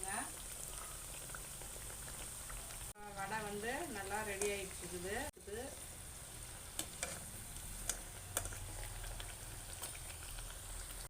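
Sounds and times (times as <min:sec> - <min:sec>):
food deep-frying in hot oil: 0:00.0 - 0:11.0
oil crackling and popping: 0:00.0 - 0:11.0.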